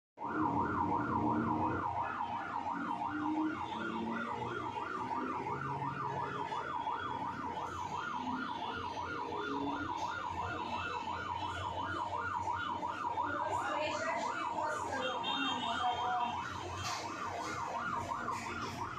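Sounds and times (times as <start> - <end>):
electronic siren warbling: 0.2 - 18.9.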